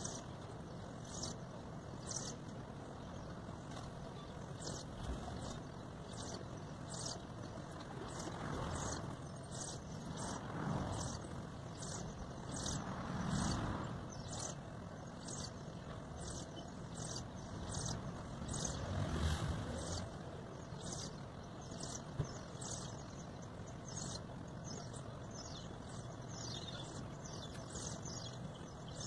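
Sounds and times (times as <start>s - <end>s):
faint high-pitched ticking chirp: 0.0s - 19.0s, 19.7s - 29.0s
distant traffic rumble: 0.0s - 29.0s.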